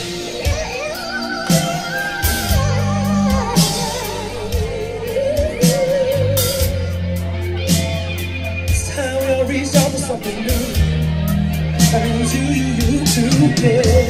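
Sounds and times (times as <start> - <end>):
live band playing rock ballad: 0.0 - 14.0
melody with wide vibrato: 0.0 - 14.0.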